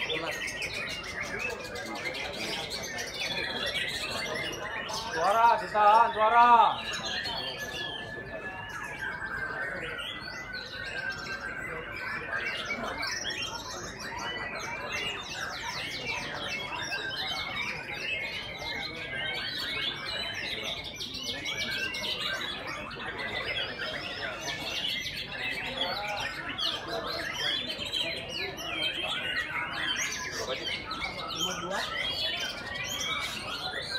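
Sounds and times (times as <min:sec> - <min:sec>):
many songbirds singing: 0:00.0 - 0:33.9.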